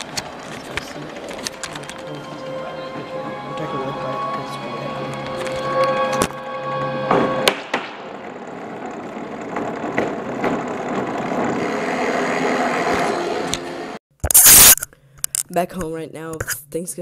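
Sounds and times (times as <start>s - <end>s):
rolling mechanical exhibit turning: 0.0s - 14.0s.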